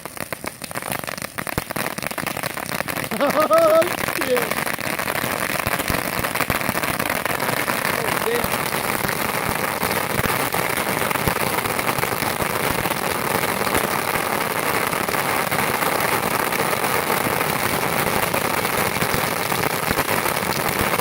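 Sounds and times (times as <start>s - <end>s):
bottle rockets crackling hiss: 0.0s - 21.0s.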